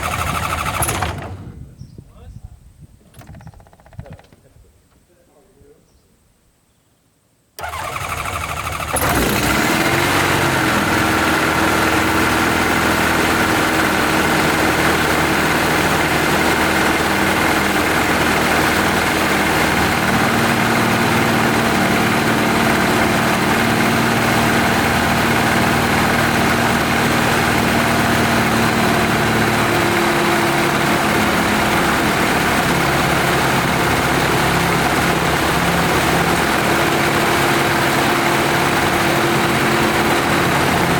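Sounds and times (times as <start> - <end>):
engine idling: 0.0 - 1.4, 7.6 - 40.9
engine cranking: 0.0 - 1.5, 7.6 - 40.9.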